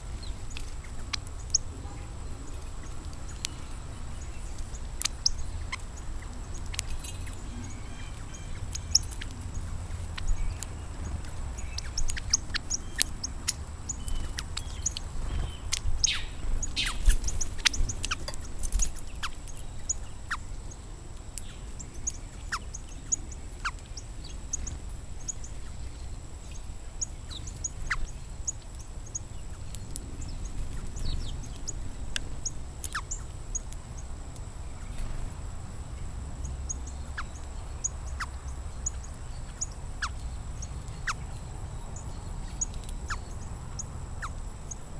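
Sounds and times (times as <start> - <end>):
small songbirds chirping: 0.0 - 44.9.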